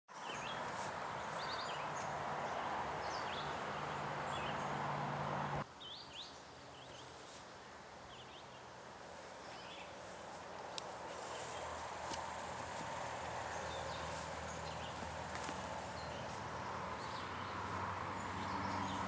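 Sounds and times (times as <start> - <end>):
small birds chirping: 0.1 - 4.8, 5.7 - 7.3, 9.4 - 19.0.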